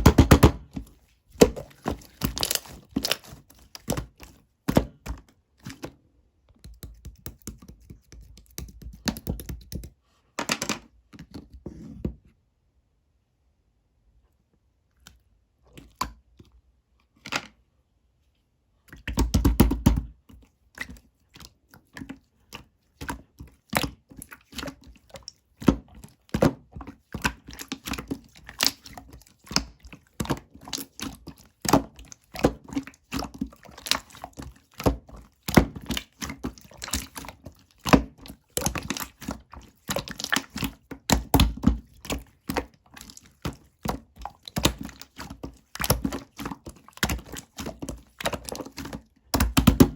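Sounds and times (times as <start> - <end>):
slime squelch: 0.0 - 9.8, 18.6 - 49.9.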